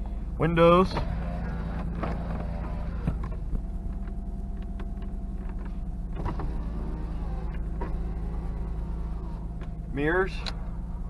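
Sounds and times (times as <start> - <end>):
car engine idling: 0.0 - 11.0
power window motor whine: 0.7 - 11.0.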